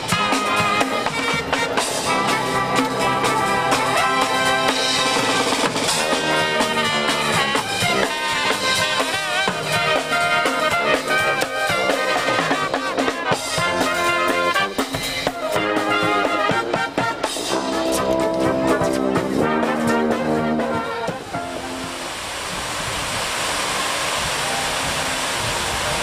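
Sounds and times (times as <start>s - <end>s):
snare drums: 0.0s - 21.8s
trombones: 0.0s - 22.2s
trumpets: 0.0s - 22.3s.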